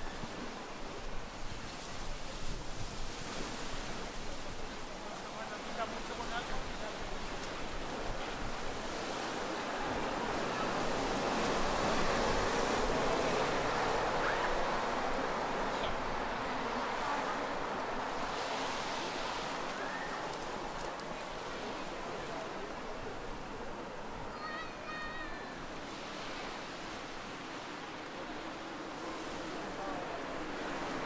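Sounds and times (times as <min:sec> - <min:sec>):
sea waves washing ashore: 0:00.0 - 0:31.0.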